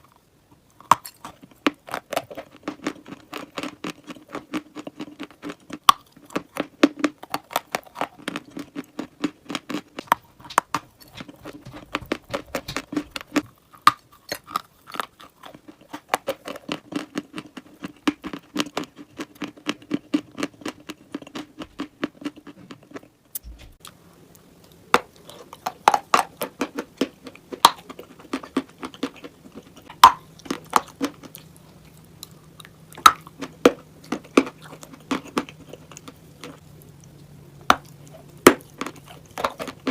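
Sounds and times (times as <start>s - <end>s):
crunching and chewing chalk: 0.0s - 39.9s
faint steady hum: 0.0s - 39.9s.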